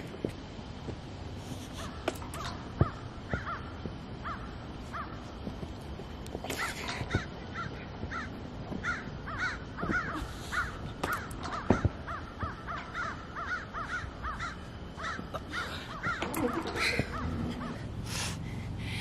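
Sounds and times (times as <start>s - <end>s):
birds calling harshly: 1.5s - 19.0s.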